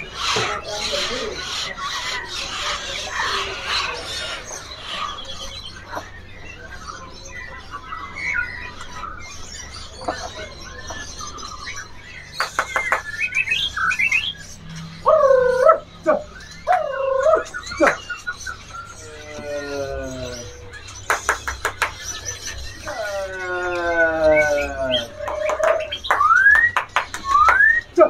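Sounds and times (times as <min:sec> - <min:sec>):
songbirds chirping and whistling: 0:00.0 - 0:28.0.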